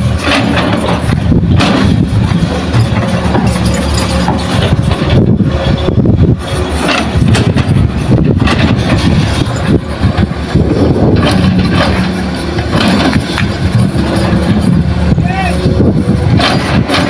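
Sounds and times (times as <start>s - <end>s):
heavy machinery diesel engines: 0.0s - 17.0s.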